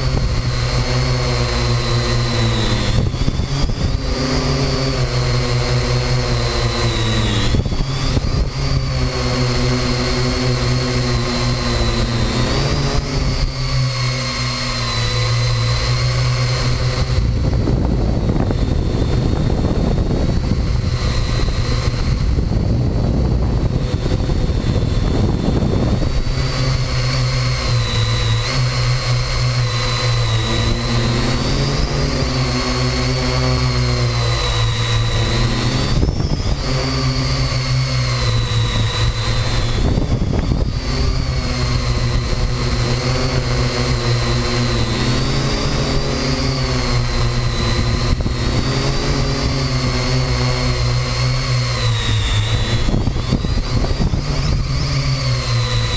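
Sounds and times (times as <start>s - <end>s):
drone propellers whining: 0.0s - 55.9s.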